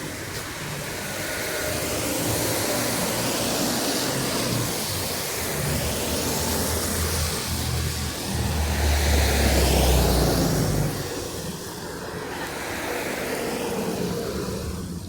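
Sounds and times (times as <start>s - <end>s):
traffic hiss: 0.0s - 15.0s
vehicle passing: 0.0s - 15.0s.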